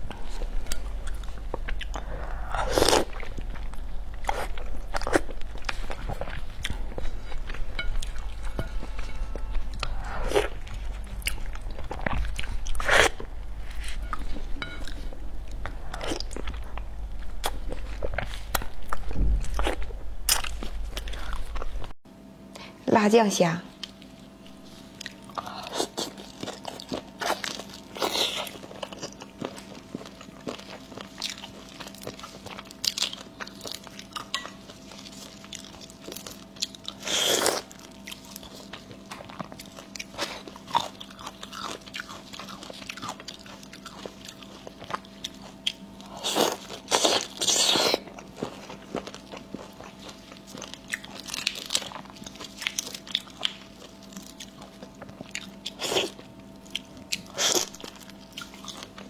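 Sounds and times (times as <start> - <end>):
person chewing crunchy food: 0.0 - 21.9, 23.8 - 59.0
faint steady hum: 0.0 - 59.0.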